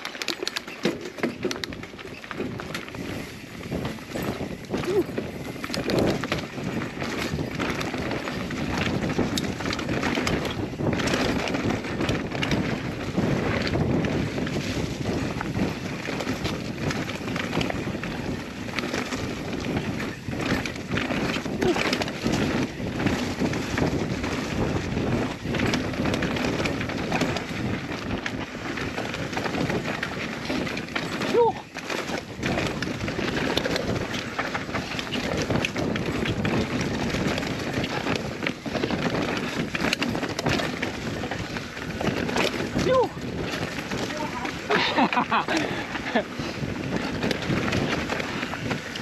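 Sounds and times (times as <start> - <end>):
bike clicks and rattles: 0.0 - 49.0
tyres rumbling on dirt: 0.0 - 49.0
wind buffeting microphone: 0.0 - 49.0.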